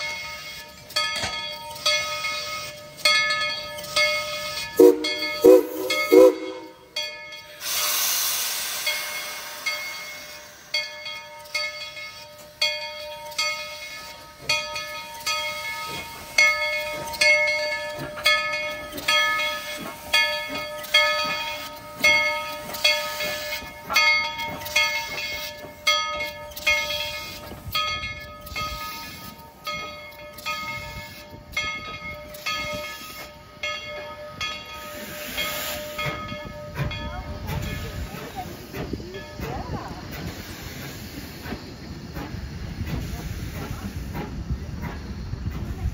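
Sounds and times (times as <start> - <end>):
locomotive bell ringing: 0.0 - 42.8.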